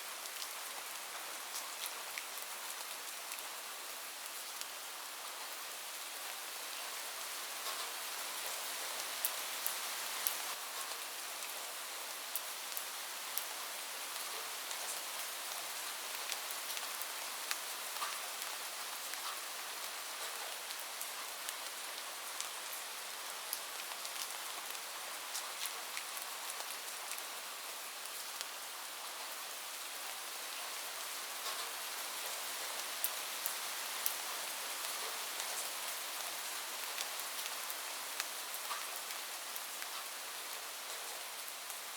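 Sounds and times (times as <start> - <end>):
heavy rain on a roof: 0.0 - 41.9.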